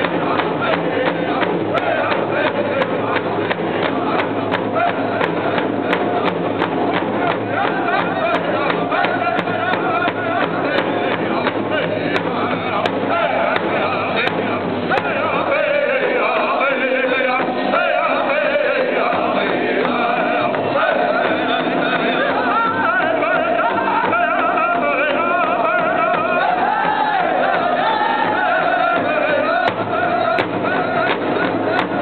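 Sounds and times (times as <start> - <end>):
large drum beat: 0.0 - 32.0
men singing in unison: 0.0 - 32.0.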